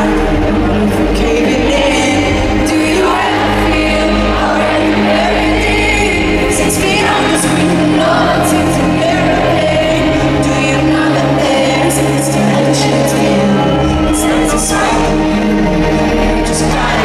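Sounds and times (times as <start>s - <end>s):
woman singing into microphone: 0.0s - 15.4s
sustained backing chords: 0.0s - 17.0s.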